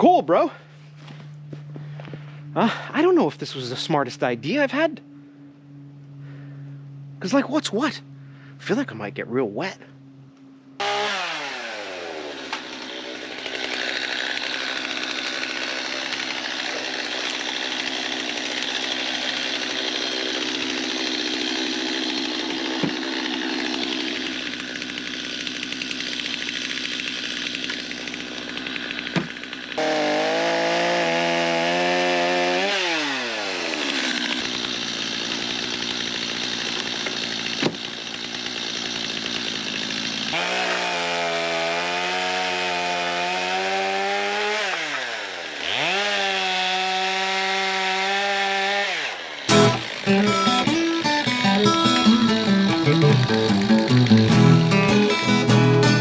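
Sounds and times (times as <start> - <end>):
chainsaw cutting logs: 10.8 - 56.0.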